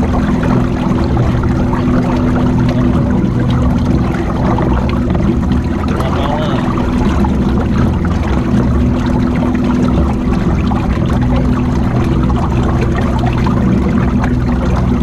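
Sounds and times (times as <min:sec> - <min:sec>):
low hum: 0:00.0 - 0:15.0
water churning and splashing: 0:00.0 - 0:15.0.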